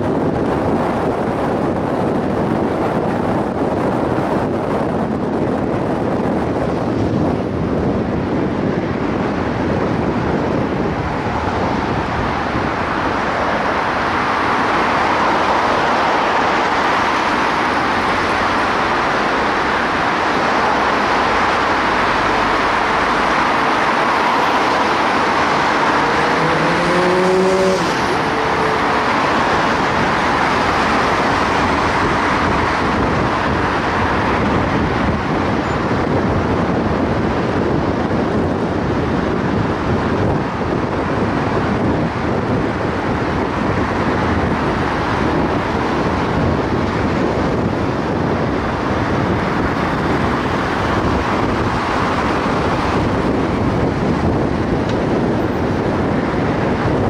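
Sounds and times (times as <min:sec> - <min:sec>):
car road and wind noise: 0:00.0 - 0:57.0
vehicle engine accelerating: 0:11.1 - 0:57.0.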